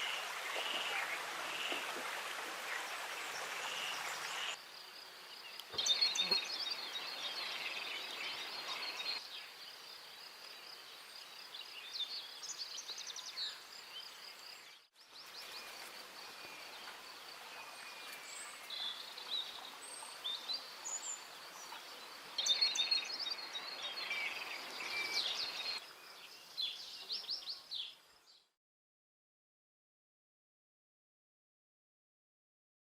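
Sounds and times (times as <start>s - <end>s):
songbirds chirping and trilling: 0.0s - 28.5s.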